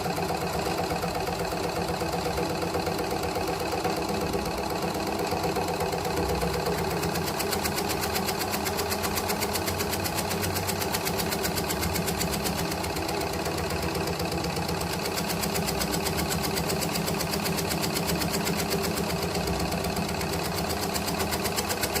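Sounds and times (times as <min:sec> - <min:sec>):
tobacco shredding machine: 0:00.0 - 0:22.0.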